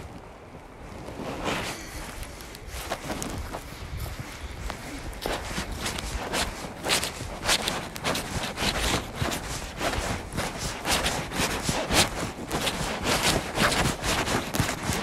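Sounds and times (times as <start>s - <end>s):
footsteps crunching dry leaves: 1.5s - 15.0s.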